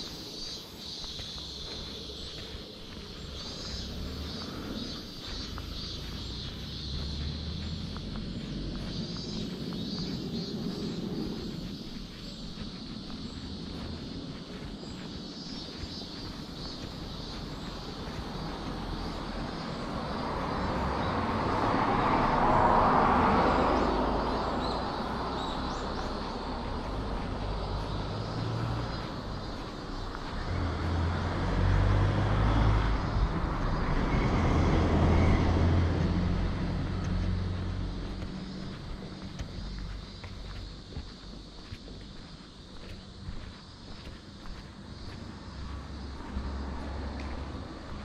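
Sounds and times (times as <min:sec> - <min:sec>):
low engine hum: 0:00.0 - 0:48.0
motor vehicles passing: 0:00.0 - 0:48.0.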